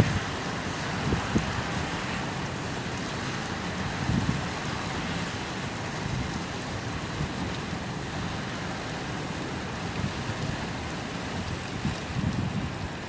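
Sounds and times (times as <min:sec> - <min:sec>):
rain hiss: 0:00.0 - 0:13.0
wind rumbling on microphone: 0:00.0 - 0:13.0.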